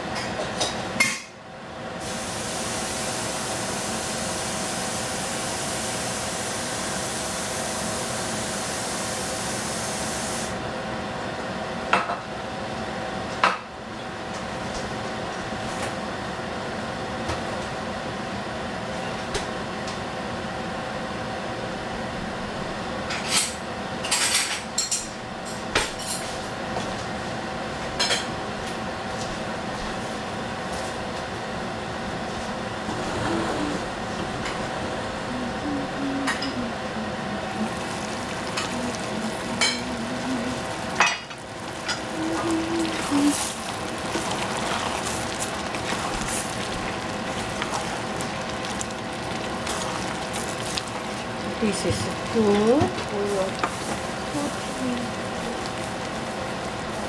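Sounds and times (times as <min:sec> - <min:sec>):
gas stove hiss and hum: 0:00.0 - 0:57.0.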